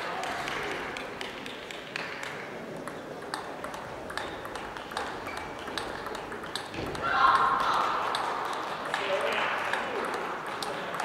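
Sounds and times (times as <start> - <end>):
background noise: 0.0 - 11.0
table tennis balls clicking: 0.2 - 11.0.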